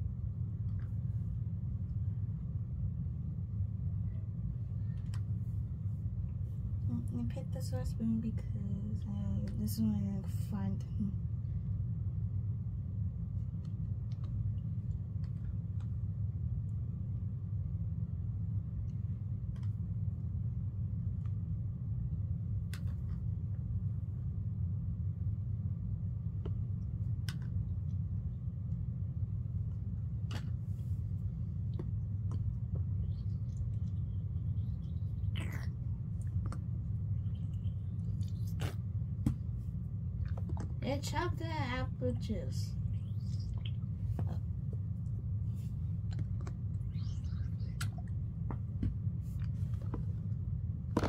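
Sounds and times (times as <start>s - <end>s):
low background rumble: 0.0s - 51.0s.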